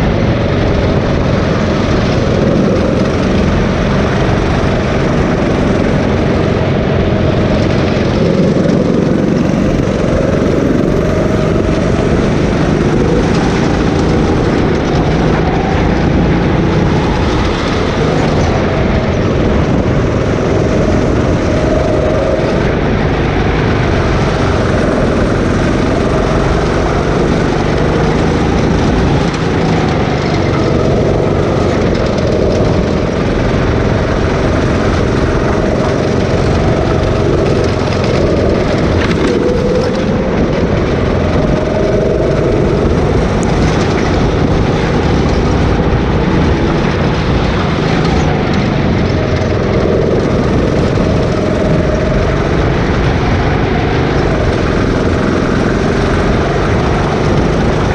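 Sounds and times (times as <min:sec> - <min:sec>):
go-kart engine running: 0:00.0 - 0:57.9.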